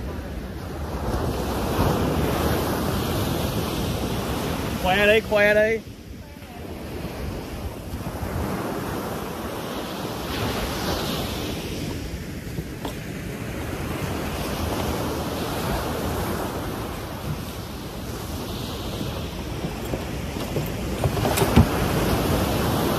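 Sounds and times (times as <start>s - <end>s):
ocean surf breaking: 0.0s - 22.9s
wind buffeting microphone: 0.0s - 22.9s.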